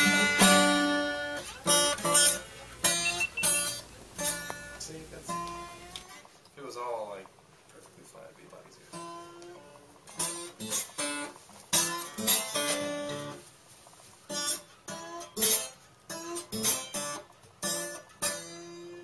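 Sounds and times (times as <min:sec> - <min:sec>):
acoustic guitar music: 0:00.0 - 0:06.4, 0:08.9 - 0:19.0.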